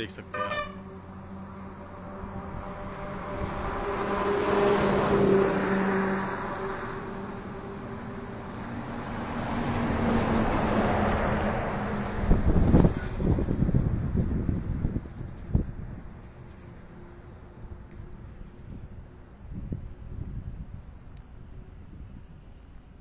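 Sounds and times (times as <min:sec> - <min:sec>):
highway vehicles passing: 0:00.0 - 0:23.0.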